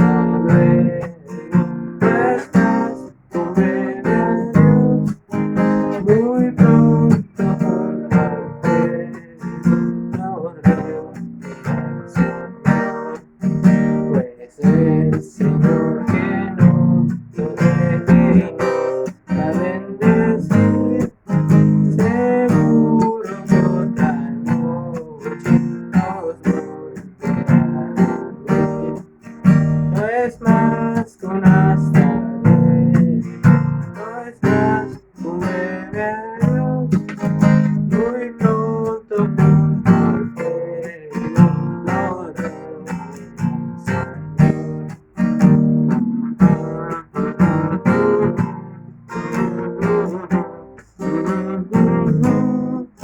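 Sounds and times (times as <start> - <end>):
acoustic guitar strumming chords: 0.0 - 53.0.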